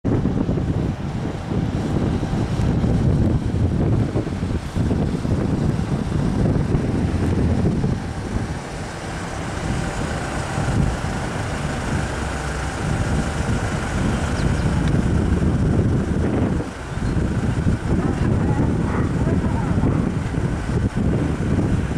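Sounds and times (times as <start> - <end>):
gusty wind on microphone: 0.0 - 21.9
truck driving slowly: 0.0 - 21.9.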